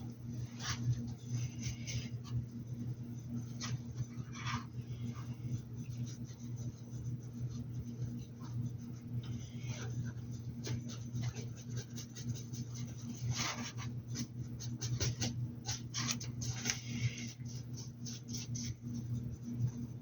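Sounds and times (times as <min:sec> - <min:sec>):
low electrical hum: 0:00.0 - 0:20.0
paintbrush scratching and tapping: 0:03.2 - 0:19.8.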